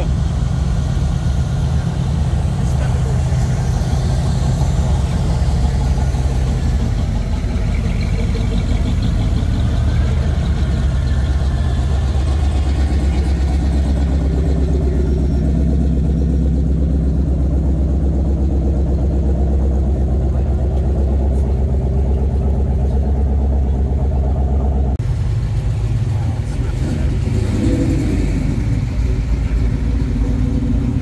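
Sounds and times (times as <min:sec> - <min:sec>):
car engines rumbling past: 0:00.0 - 0:31.0.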